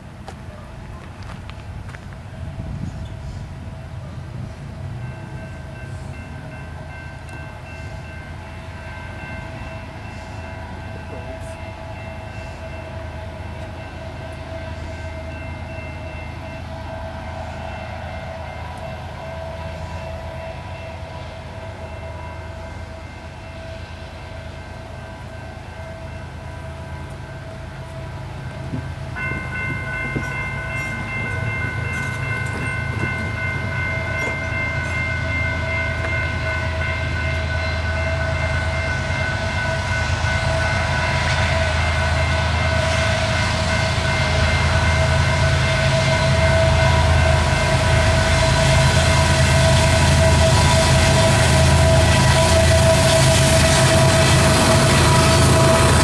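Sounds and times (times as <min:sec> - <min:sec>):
diesel locomotive engine rumble: 0:00.0 - 0:56.0
train horn blasts: 0:05.4 - 0:56.0.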